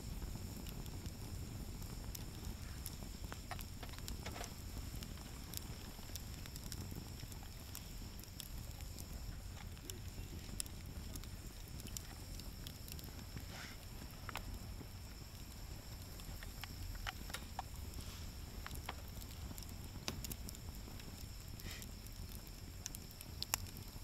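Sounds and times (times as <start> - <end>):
low steady rumble: 0.0 - 24.0
wood fire crackling: 0.0 - 24.0.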